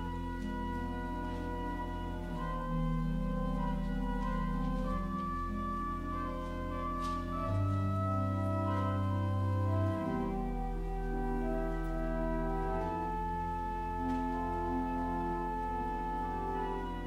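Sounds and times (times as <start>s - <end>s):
church organ chords: 0.0s - 17.0s
deep bass organ note: 0.0s - 17.0s.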